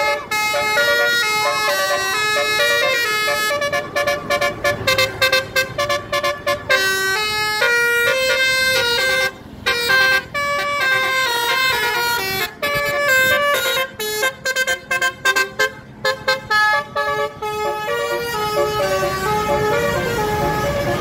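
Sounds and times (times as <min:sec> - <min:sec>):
multi-tone air horns melody: 0:00.0 - 0:21.0.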